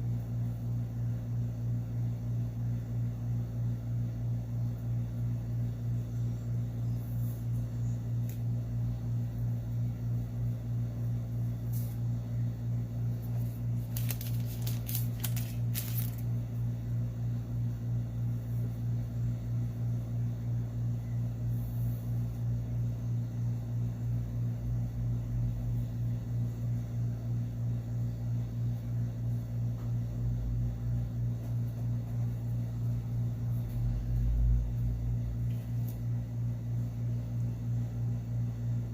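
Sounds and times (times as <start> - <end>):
low pulsing hum: 0.0 - 38.9.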